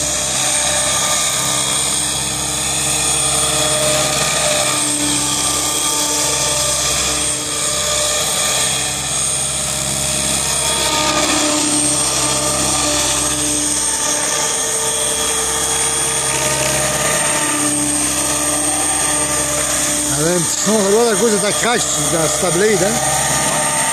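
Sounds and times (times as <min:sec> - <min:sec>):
rc helicopter motor whine: 0:00.0 - 0:23.9.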